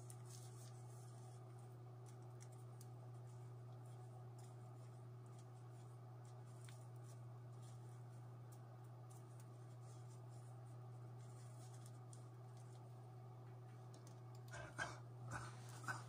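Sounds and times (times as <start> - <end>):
paper rustling: 0.0 - 13.0
steady low hum: 0.0 - 16.0.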